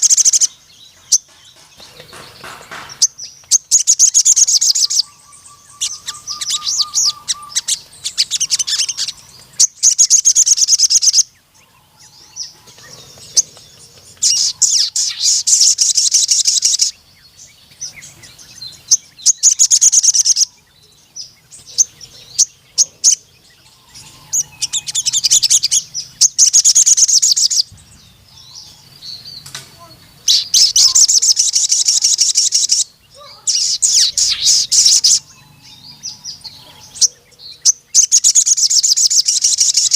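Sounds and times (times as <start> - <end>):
bird singing rapid high trills: 0.0 - 39.9.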